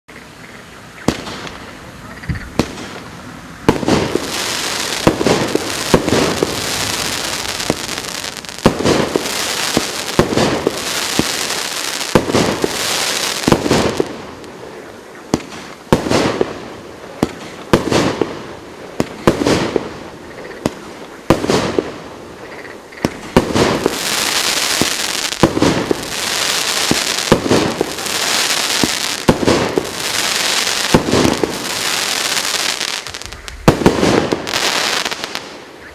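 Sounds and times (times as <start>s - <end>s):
firework shots banging and hissing: 1.0s - 1.7s, 2.3s - 22.2s, 23.0s - 35.8s.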